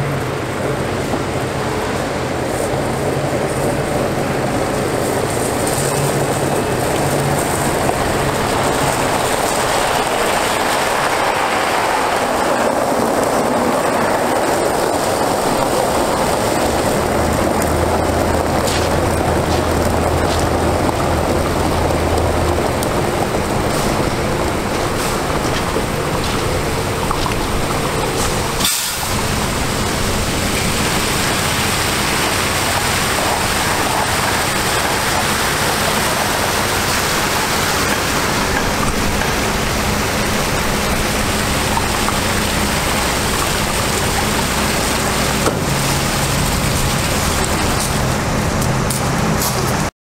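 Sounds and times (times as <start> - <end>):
diesel engine running: 0.0 - 49.9
water spraying onto gravel: 0.4 - 49.9.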